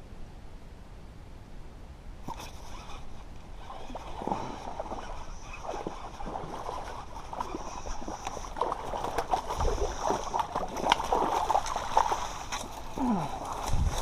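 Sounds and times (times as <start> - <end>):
fish splashing in water: 2.3 - 14.0.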